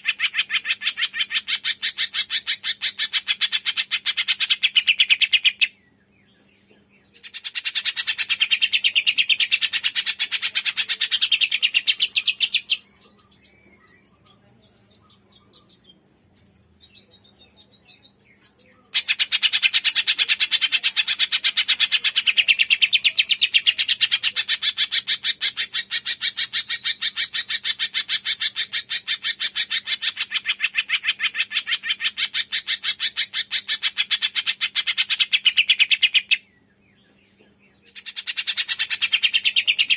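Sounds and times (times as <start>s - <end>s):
faint bird chirps: 0.0s - 39.9s.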